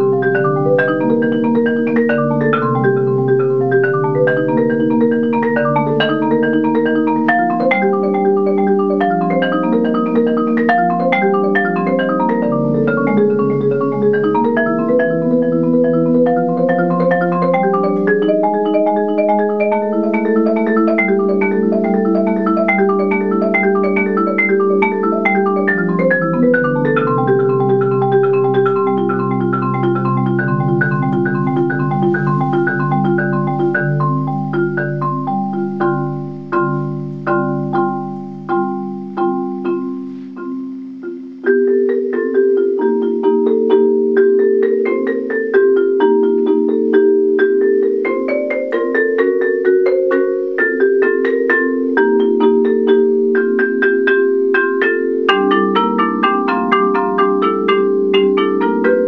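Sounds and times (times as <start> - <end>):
marimba played with mallets: 0.0 - 59.0.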